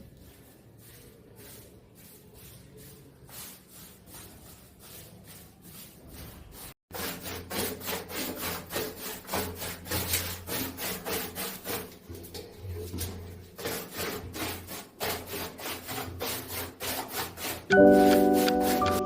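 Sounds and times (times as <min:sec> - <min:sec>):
rubbing strokes on hard surface: 0:00.0 - 0:19.0.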